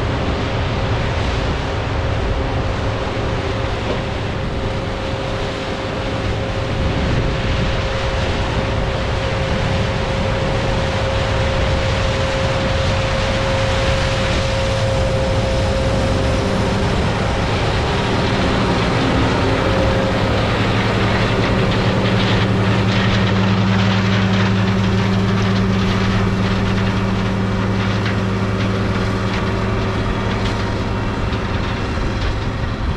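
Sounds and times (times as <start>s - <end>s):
combine harvester drone: 0.0s - 32.9s
deep machine hum: 0.0s - 32.9s
steady machine whine: 0.0s - 32.9s.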